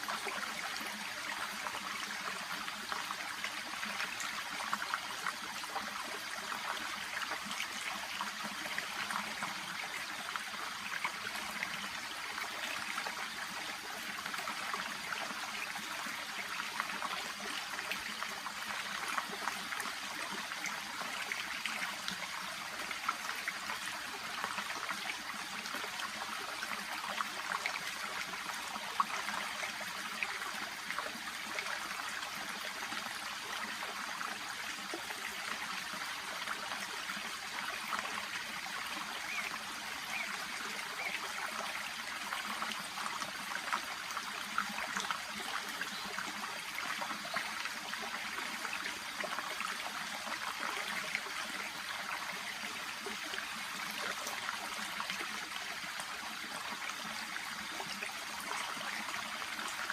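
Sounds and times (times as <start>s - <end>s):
brook babbling: 0.0s - 59.9s.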